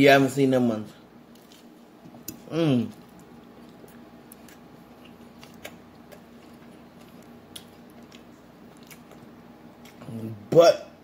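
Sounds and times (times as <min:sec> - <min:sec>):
faint steady hum: 0:00.0 - 0:11.0
man chewing with mouth clicks: 0:01.3 - 0:10.3.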